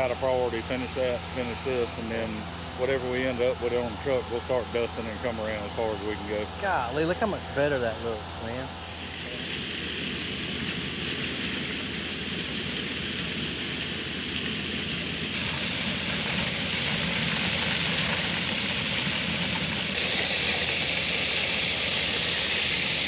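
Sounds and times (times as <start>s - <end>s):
air and mulch rushing through hose: 0.0s - 23.0s
blower truck engine running: 0.0s - 23.0s.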